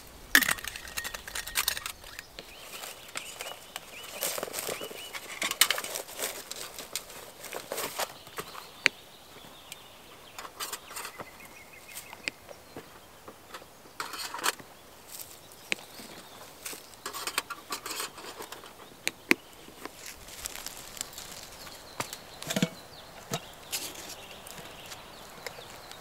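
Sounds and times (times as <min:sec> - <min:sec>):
dry leaves rustling: 0:00.0 - 0:13.2, 0:14.0 - 0:26.0
camping gear clicking and knocking: 0:00.3 - 0:26.0.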